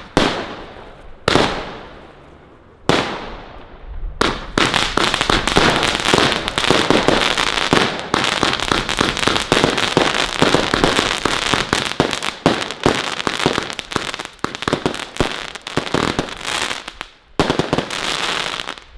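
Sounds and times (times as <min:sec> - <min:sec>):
crackling firework stars: 0:00.0 - 0:18.9.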